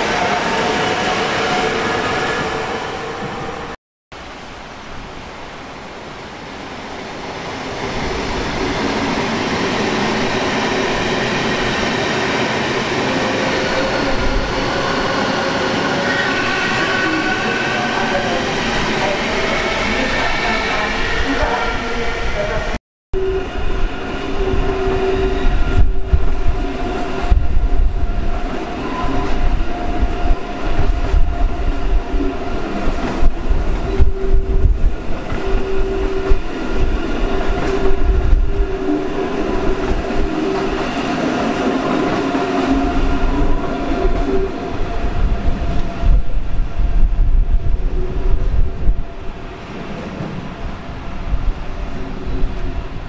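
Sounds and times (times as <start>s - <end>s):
train rumbling past: 6.3s - 53.0s.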